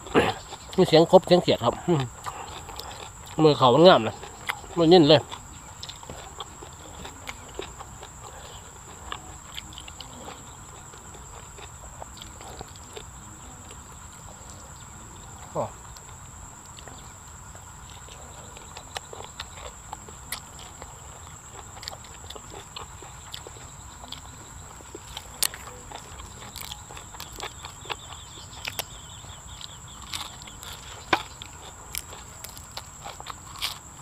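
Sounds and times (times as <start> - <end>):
high insect trill: 0.0 - 34.0
person chewing food: 0.0 - 34.0.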